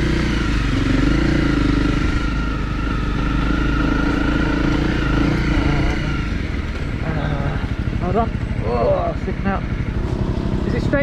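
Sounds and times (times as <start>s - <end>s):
motorcycle engine at steady revs: 0.0s - 11.0s.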